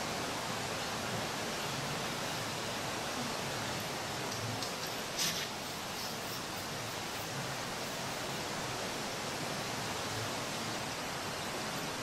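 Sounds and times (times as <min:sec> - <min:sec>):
mountain stream rushing: 0:00.0 - 0:12.0.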